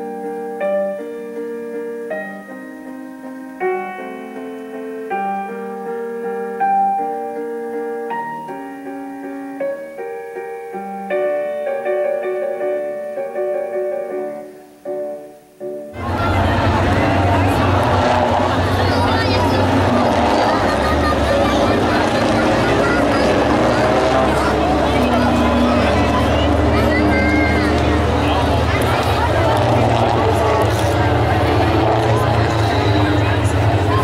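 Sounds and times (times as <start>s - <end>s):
solo piano music: 0.0s - 34.0s.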